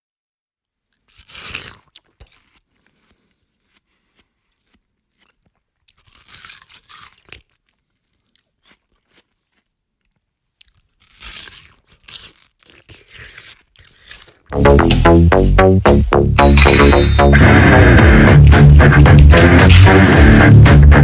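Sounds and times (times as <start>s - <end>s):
watermelon crunching: 0.7s - 15.4s, 18.0s - 21.0s.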